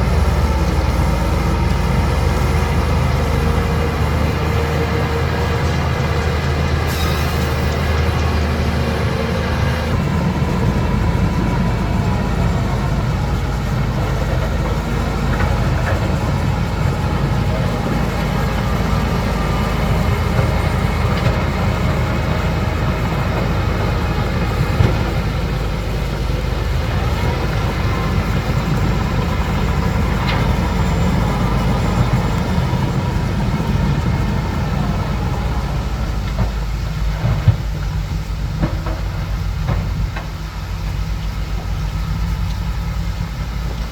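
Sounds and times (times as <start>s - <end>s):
bulldozer diesel engine rumble: 0.0s - 43.9s
steel tracks clattering: 0.0s - 43.9s.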